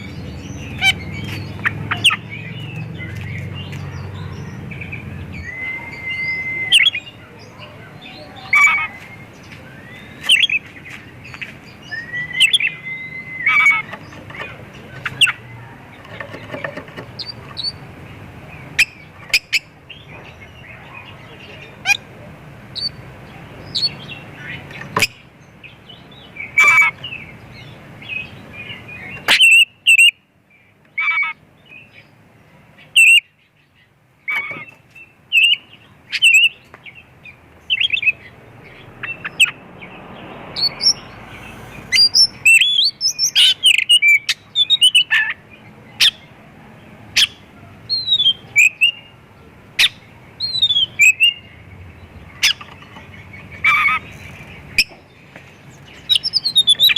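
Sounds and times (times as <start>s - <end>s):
magpie-robin singing: 0.0s - 56.9s.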